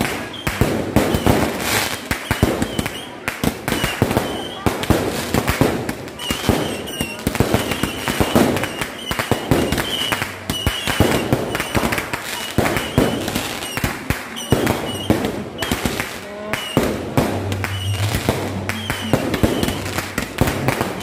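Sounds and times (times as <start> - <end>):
aerial fireworks bangs and crackling: 0.0 - 21.0.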